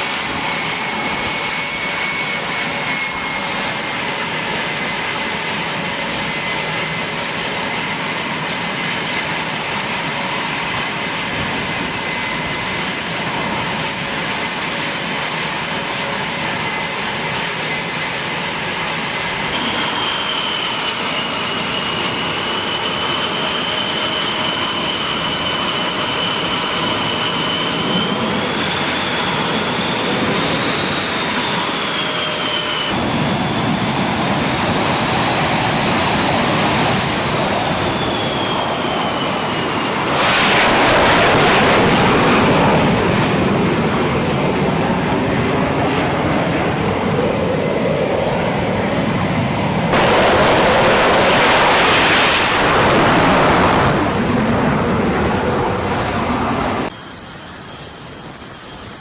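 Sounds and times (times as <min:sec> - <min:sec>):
jet engine roar: 0:00.0 - 0:59.0
jet engine turbine whine: 0:00.0 - 0:59.0.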